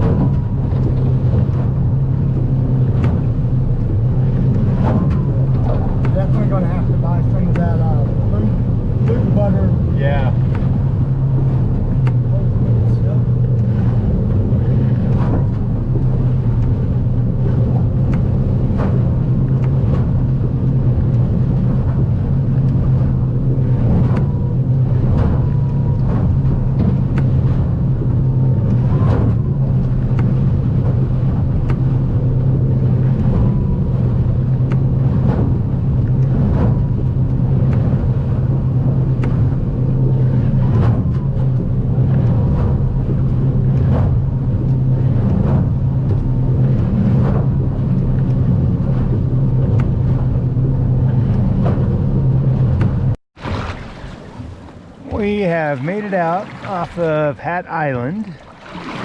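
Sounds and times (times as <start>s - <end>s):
boat engine drone: 0.0s - 59.0s
hull knocking on swells: 0.0s - 59.0s.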